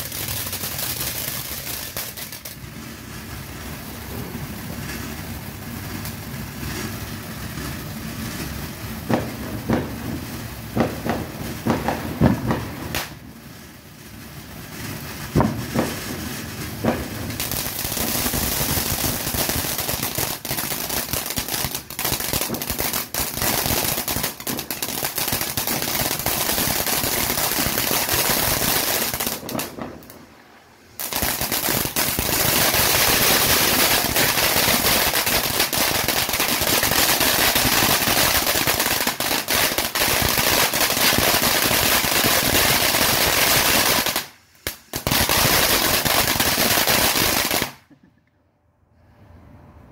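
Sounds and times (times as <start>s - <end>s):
firework fountain crackling: 0.0s - 48.2s.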